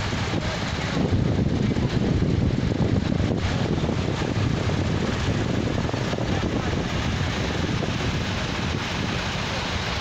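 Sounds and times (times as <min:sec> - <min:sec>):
tractor engines rumbling: 0:00.0 - 0:10.0
wind noise on microphone: 0:00.0 - 0:10.0.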